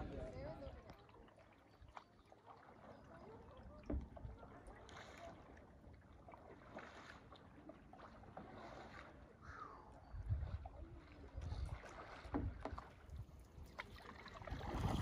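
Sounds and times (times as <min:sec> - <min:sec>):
paddle splashing and dripping: 0:00.0 - 0:15.0.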